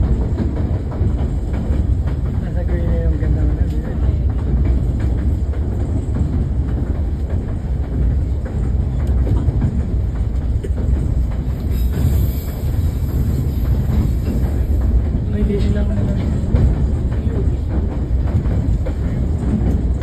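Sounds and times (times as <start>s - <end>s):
train car rumbling: 0.0s - 20.0s.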